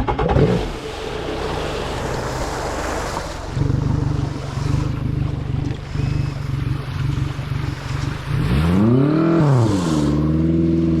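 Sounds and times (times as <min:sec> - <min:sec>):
boat engine drone: 0:00.0 - 0:11.0
water rushing along hull: 0:00.0 - 0:11.0.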